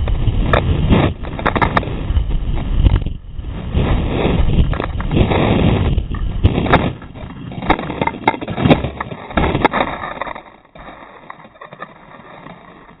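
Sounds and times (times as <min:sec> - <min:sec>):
faint rustling in dry grass: 0:00.0 - 0:13.0.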